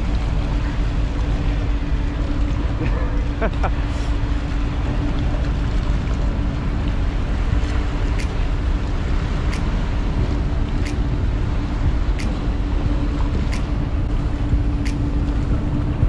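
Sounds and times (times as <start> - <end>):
ship engines rumbling: 0.0 - 16.0
wind buffeting microphone: 0.0 - 16.0.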